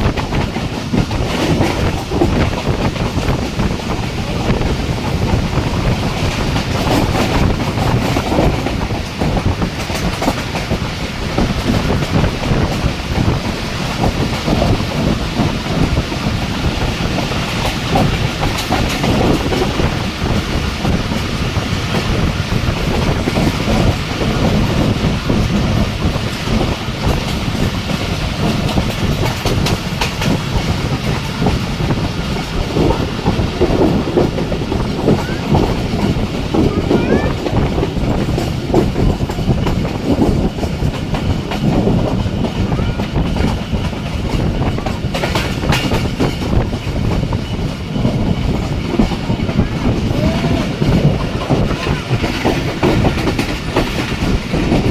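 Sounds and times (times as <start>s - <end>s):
clatter over the track: 0.0s - 54.9s
train wheels rumbling on rails: 0.0s - 54.9s.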